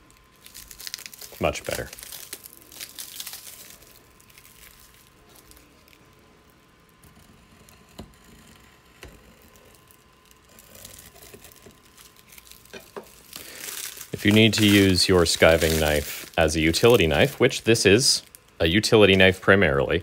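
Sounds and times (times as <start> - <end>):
packing rustling and crinkling: 0.0 - 6.6, 9.4 - 19.4.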